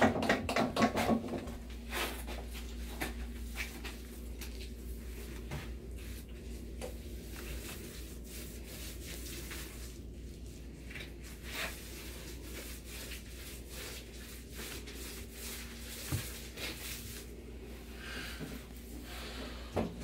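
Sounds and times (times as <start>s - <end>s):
steady low hum: 1.3s - 20.0s
paint roller rubbing on wall: 1.8s - 20.0s.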